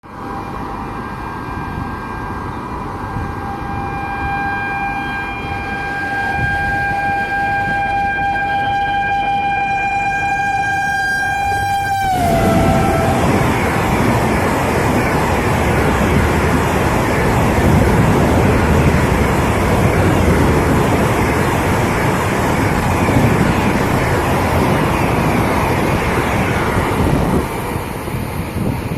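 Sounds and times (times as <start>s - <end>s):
train rushing past: 0.1s - 28.9s.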